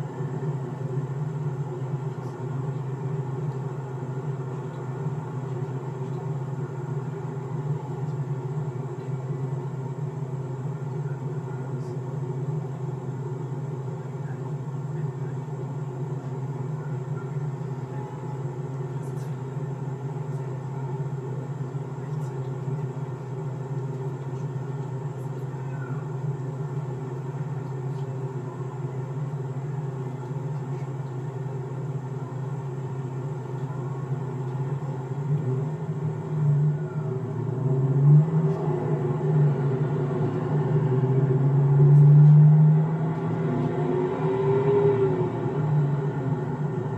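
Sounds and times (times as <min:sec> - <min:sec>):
car engine idling hum: 0:00.0 - 0:46.9.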